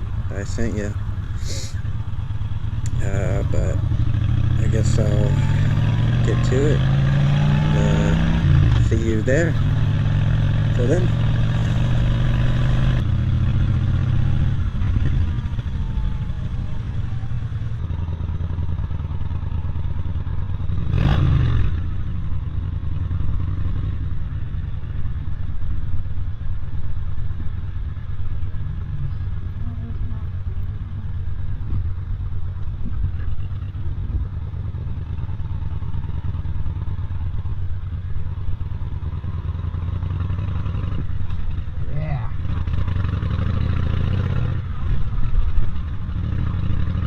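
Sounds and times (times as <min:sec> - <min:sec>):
motorcycle running: 0:00.0 - 0:47.0
road and wind noise: 0:00.0 - 0:47.0.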